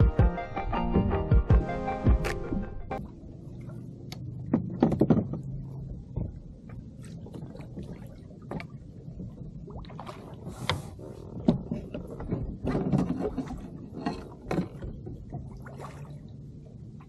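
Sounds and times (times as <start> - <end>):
wind and sea rumble: 0.0 - 17.0
water sloshing against kayak hull: 2.2 - 17.0.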